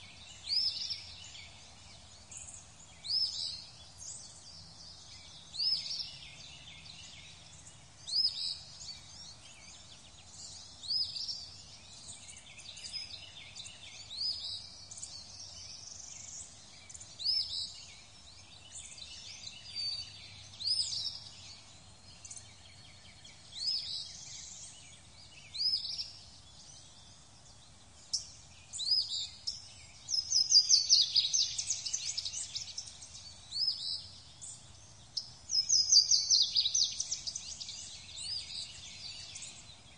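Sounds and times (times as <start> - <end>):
background birdsong: 0.0 - 39.9.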